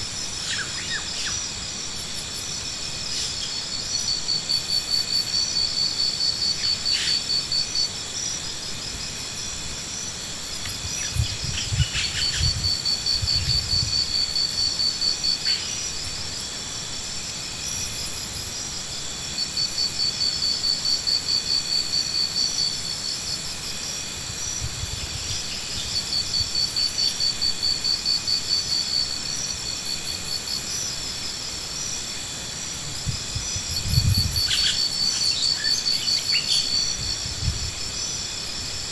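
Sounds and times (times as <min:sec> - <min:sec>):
insect drone: 0:00.0 - 0:38.9
insects trilling: 0:00.0 - 0:38.9.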